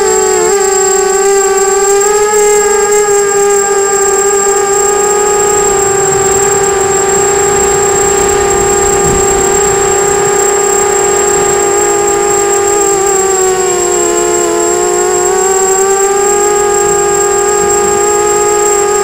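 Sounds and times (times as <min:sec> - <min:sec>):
quadcopter motors whining: 0:00.0 - 0:19.0
thin high steady tone: 0:03.7 - 0:19.0.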